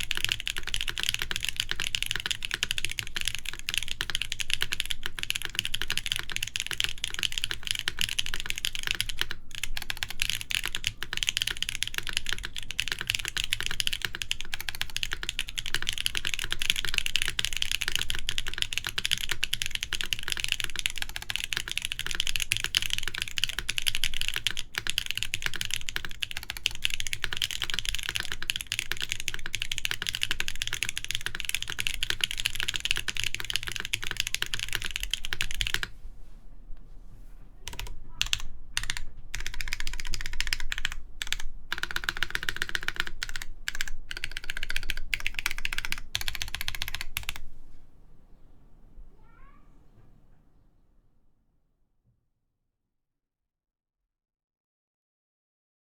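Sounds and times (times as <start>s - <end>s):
fast mechanical keyboard typing: 0.0s - 35.9s, 37.6s - 47.4s.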